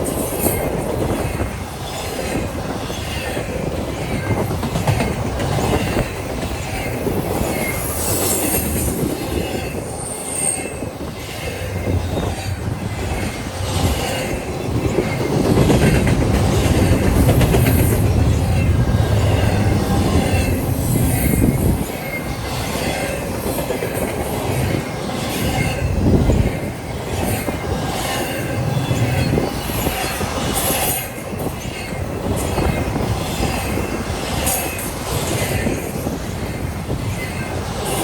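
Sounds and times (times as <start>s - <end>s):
train rolling on rails: 0.0s - 38.0s
train wheels squealing: 0.0s - 38.0s.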